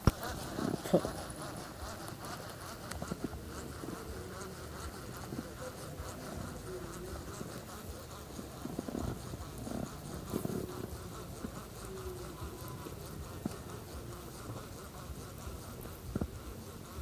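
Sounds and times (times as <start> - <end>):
fishing reel whirring: 0.0 - 17.0.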